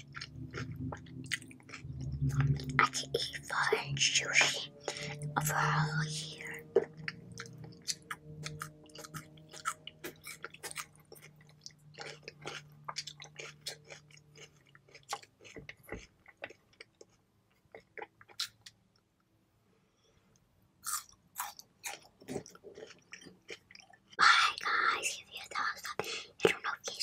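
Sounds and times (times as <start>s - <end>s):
chewing food: 0.0s - 3.7s, 4.3s - 18.8s, 20.8s - 24.7s.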